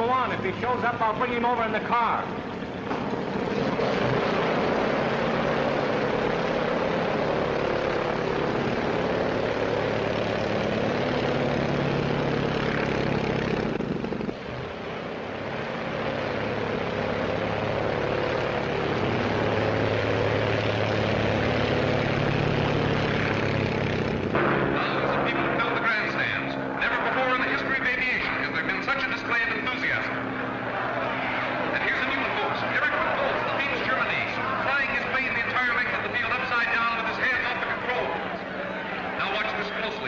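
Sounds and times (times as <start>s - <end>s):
propeller aircraft engine: 0.0s - 40.0s.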